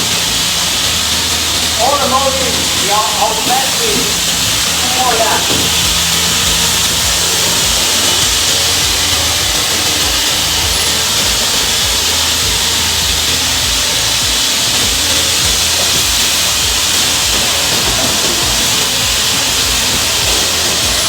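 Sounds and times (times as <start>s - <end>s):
saw blade and motor hissing: 0.0s - 21.0s.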